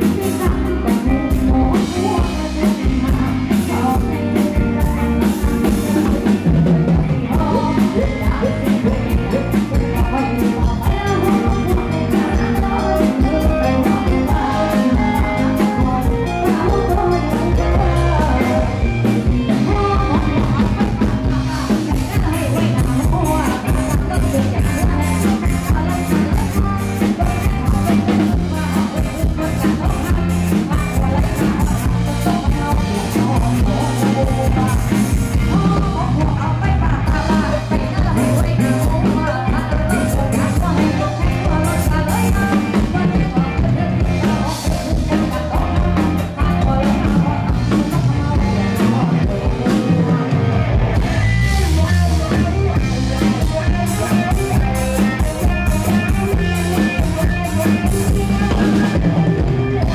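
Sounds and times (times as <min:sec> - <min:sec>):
drum kit: 0:00.0 - 0:59.9
electric guitar: 0:00.0 - 0:59.9
woman singing: 0:00.0 - 0:59.9.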